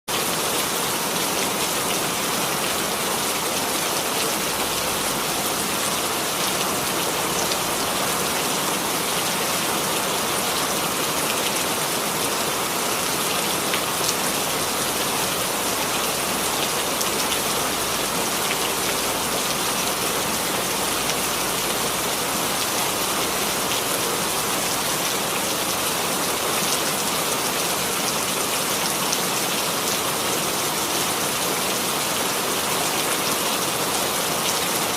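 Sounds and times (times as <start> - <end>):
rain pattering on a surface: 0.1 - 34.9.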